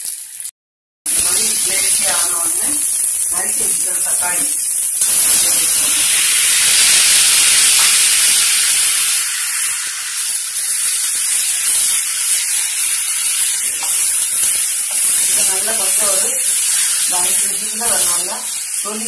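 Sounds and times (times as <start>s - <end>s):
tomatoes sizzling in hot oil: 0.0s - 0.5s, 1.1s - 19.0s.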